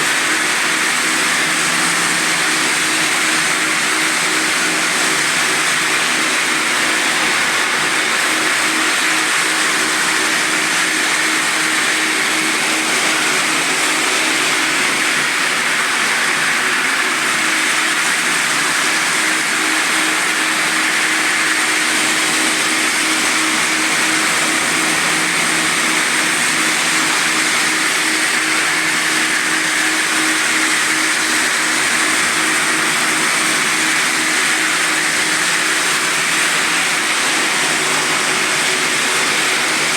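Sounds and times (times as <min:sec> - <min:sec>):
floor sanding machine droning: 0:00.0 - 0:39.9.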